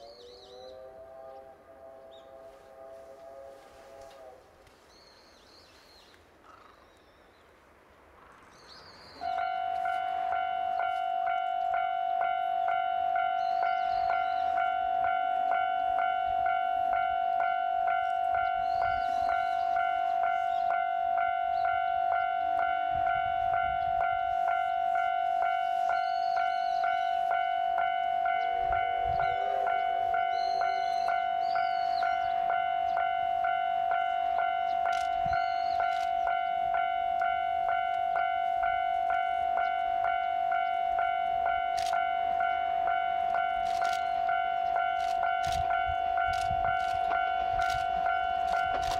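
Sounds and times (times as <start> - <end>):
level crossing warning bell: 9.2 - 48.9.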